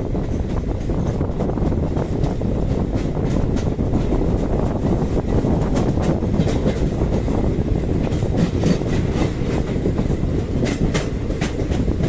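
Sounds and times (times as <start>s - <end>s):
train wheels rumbling on rails: 0.0s - 12.0s
wheels clicking over rail joints: 0.1s - 12.0s.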